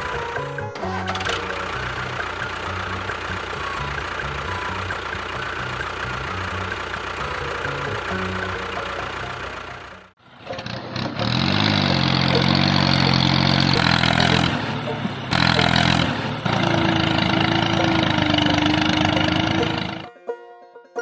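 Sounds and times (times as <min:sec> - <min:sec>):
motor running: 0:00.0 - 0:20.1.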